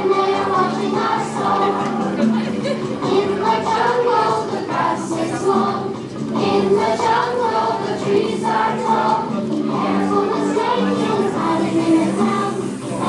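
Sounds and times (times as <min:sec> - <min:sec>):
group of adults singing: 0:00.0 - 0:13.0.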